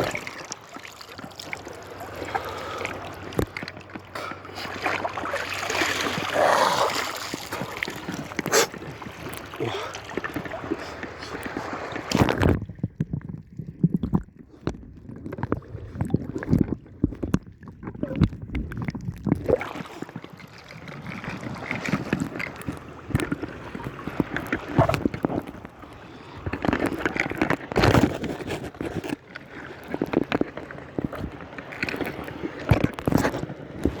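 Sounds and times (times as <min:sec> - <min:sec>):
sea water sloshing and gurgling: 0:00.0 - 0:34.0
water splashes: 0:00.0 - 0:34.0.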